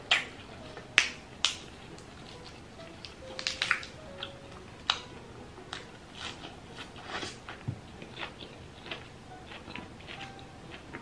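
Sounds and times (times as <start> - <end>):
wet chewing and mouth clicks: 0.1 - 5.1, 5.7 - 11.0.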